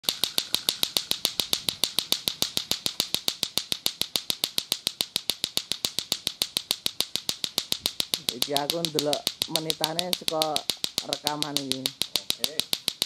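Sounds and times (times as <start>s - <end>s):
plastic balls clacking: 0.0s - 13.0s.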